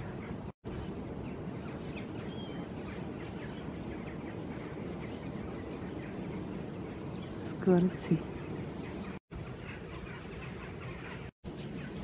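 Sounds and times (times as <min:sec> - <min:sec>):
starlings chattering: 0:00.0 - 0:12.0.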